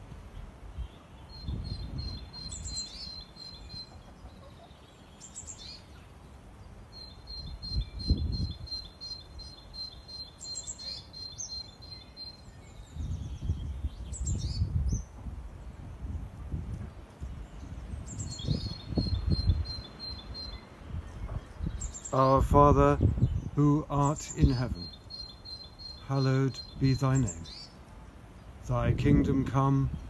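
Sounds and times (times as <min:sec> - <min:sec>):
small birds singing: 0:00.0 - 0:30.0.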